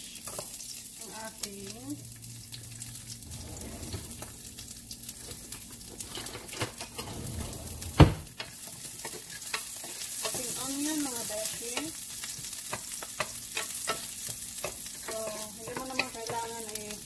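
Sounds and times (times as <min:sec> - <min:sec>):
onion sizzling in oil: 0:00.0 - 0:07.0, 0:08.2 - 0:17.0.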